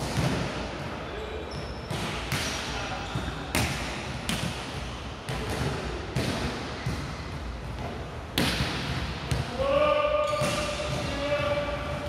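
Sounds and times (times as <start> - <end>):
balls bouncing on hard court: 0.0 - 12.0.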